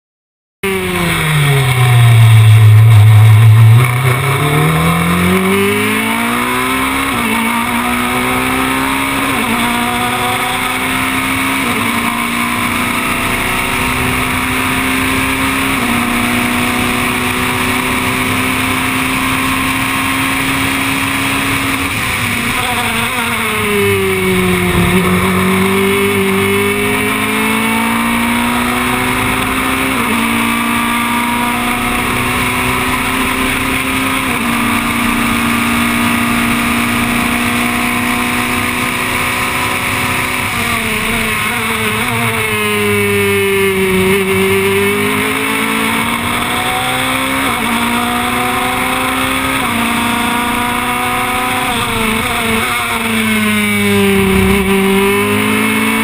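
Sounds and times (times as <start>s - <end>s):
race car engine revving: 0.6s - 56.0s.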